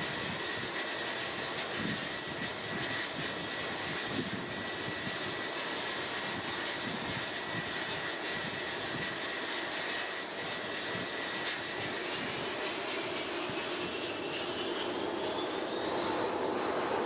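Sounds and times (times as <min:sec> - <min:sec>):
jet engine rushing with whine: 0:00.0 - 0:17.0.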